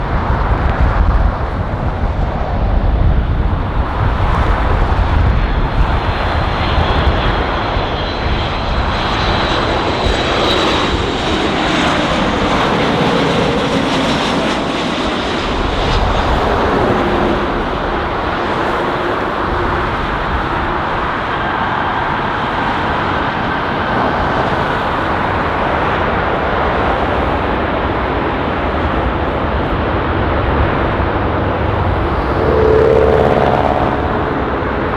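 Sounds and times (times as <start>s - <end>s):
jet engines rumbling: 0.0s - 34.9s.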